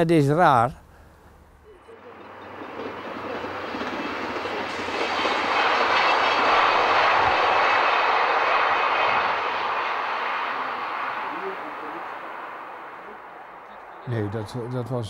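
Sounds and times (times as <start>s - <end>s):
train rumbling past: 1.0s - 15.0s.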